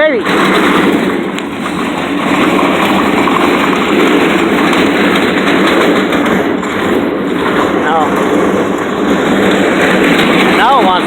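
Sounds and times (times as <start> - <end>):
tool box casters rolling on pavement: 0.0 - 11.0.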